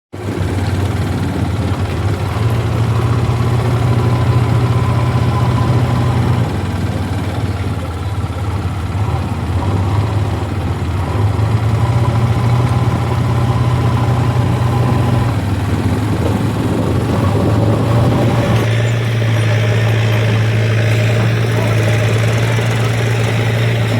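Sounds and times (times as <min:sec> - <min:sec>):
heavy diesel engine running: 0:00.1 - 0:23.9.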